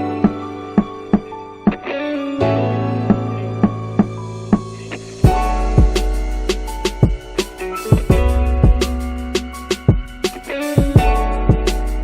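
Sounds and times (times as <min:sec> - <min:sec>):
song with guitar and drums: 0:00.0 - 0:12.0.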